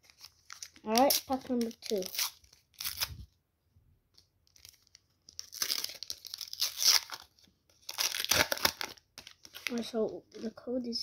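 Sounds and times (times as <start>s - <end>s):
wrapper tearing and crinkling: 0.0s - 3.2s, 4.4s - 10.4s.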